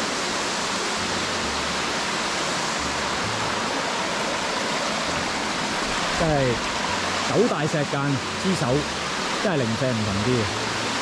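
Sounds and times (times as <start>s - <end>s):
stream cascading over boulders: 0.0s - 11.0s
waterfall rushing: 0.0s - 11.0s.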